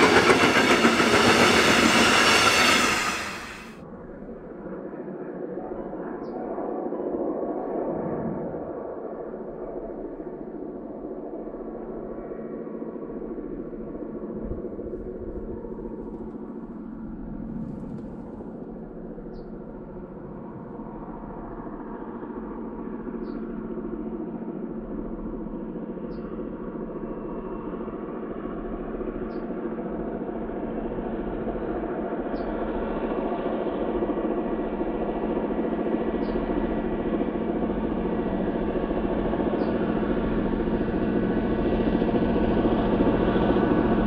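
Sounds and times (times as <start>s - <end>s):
diesel locomotive engine drone: 0.0s - 44.0s.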